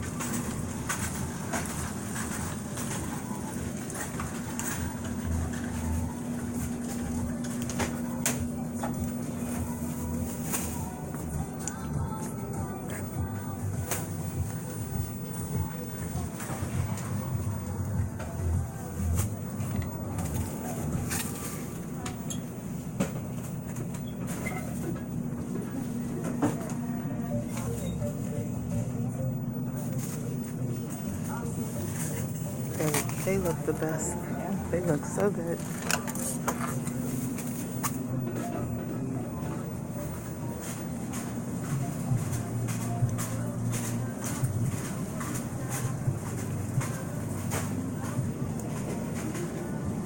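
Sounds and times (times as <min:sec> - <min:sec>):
low rumble and hum: 0:00.0 - 0:50.0
steady hum tone: 0:00.0 - 0:50.0.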